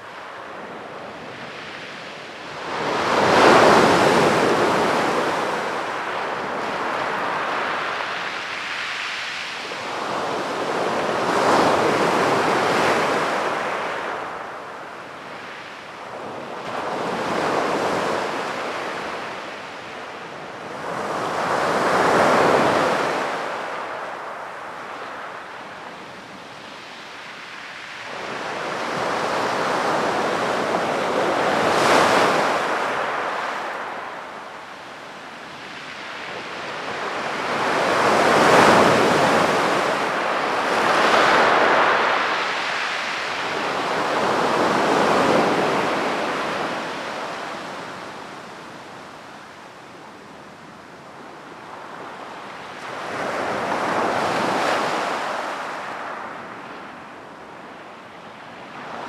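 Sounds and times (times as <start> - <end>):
sea waves breaking on beach: 0.1 - 50.9, 51.6 - 57.2.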